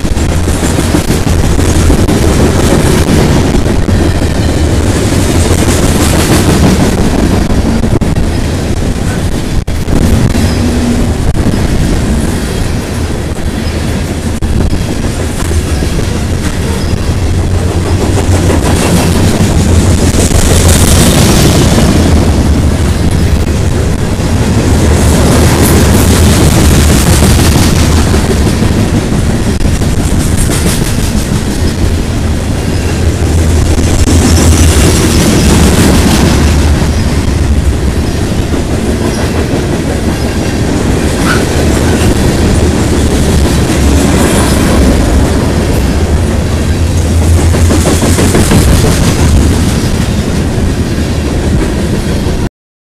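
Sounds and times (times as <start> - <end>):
train wheels rumbling on rails: 0.0 - 52.5.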